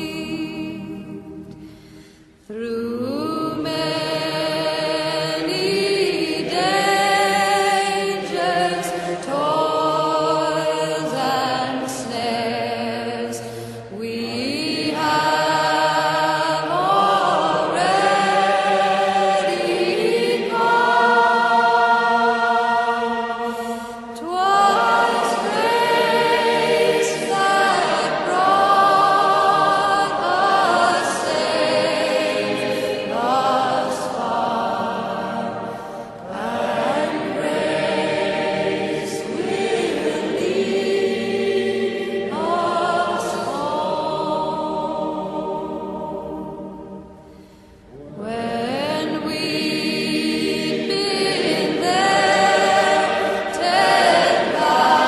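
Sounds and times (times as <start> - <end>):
choir singing a slow hymn: 0.0 - 55.0.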